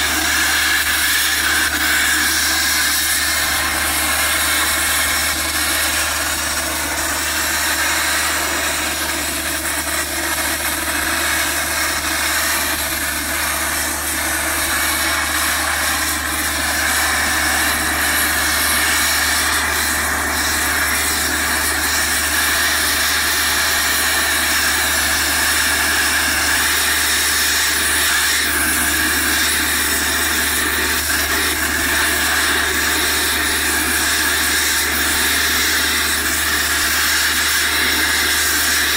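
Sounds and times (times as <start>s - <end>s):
oxygen jet hissing through steel: 0.0s - 38.9s.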